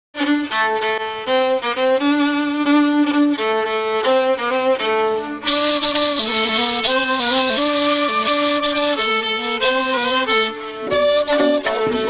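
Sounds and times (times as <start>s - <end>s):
violin and flute folk melody: 0.2s - 12.0s.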